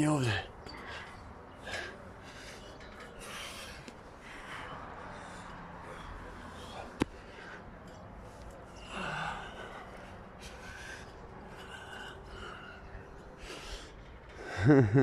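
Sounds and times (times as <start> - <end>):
man breathing: 0.5 - 14.7.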